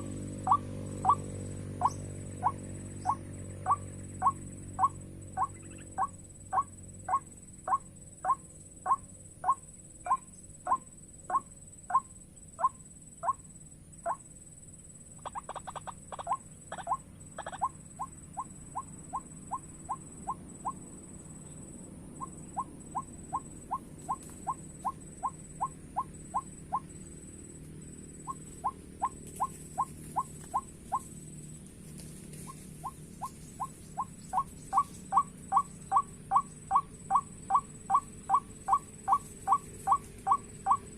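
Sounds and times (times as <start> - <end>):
bird calling repeated notes: 0.0 - 14.2, 15.2 - 20.8, 22.2 - 27.0, 28.2 - 31.1, 32.4 - 40.9.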